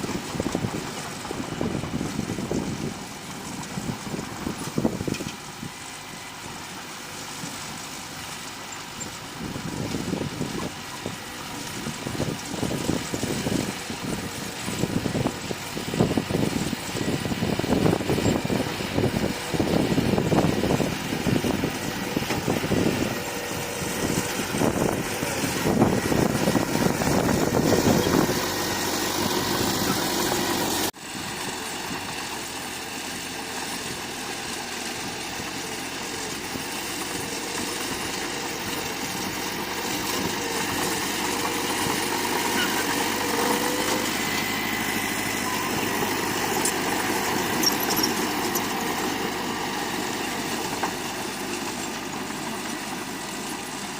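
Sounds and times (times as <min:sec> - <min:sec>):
heavy diesel engine working: 0:00.0 - 0:53.9.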